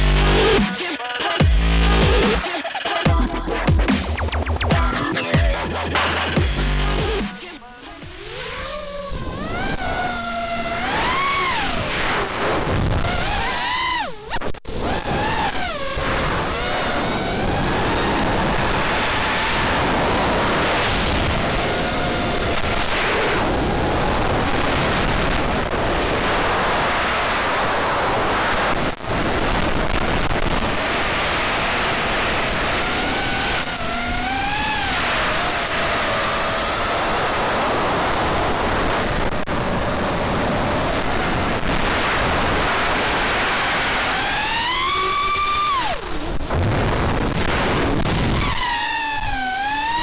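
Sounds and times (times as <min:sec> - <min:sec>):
drone motor whine: 0:06.2 - 0:50.0
rushing wind noise: 0:07.9 - 0:50.0.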